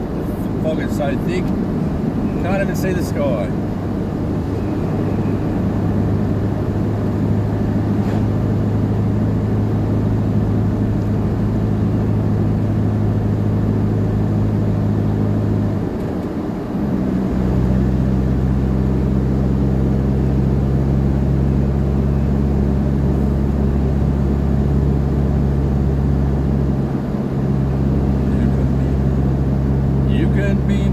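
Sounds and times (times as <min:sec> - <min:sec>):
engine droning while driving: 0:00.0 - 0:30.9.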